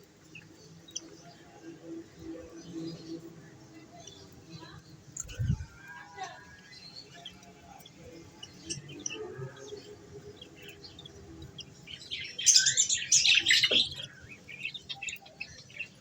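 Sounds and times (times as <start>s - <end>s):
budgies chirping: 0.0s - 16.0s.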